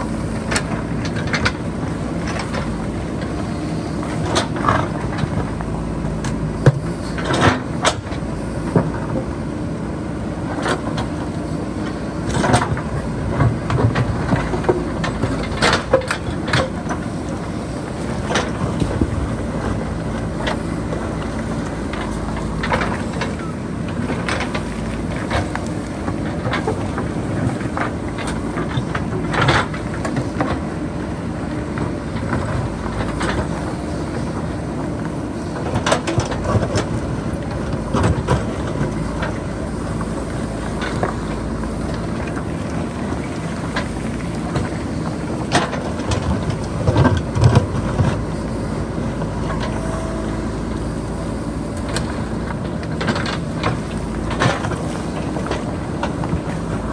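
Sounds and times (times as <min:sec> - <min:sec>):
diesel engine running under load: 0:00.0 - 0:56.9.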